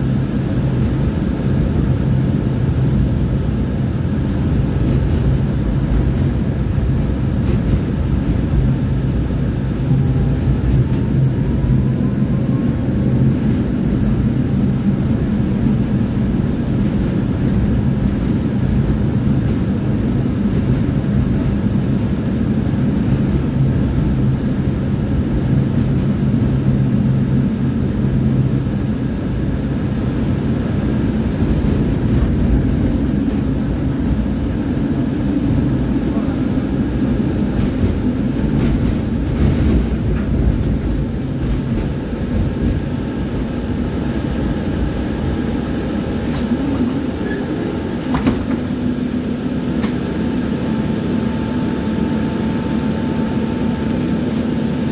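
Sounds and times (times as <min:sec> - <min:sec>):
tram wheels rumbling on rails: 0:00.0 - 0:54.9.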